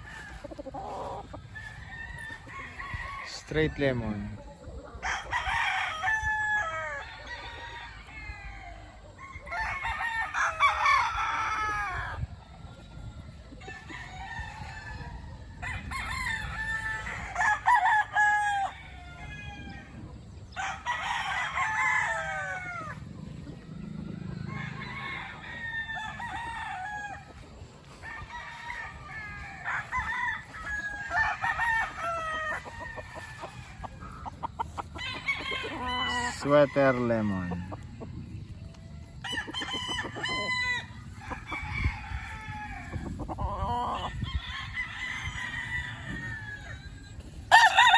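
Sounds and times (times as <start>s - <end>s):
roosters crowing: 0.0s - 47.9s.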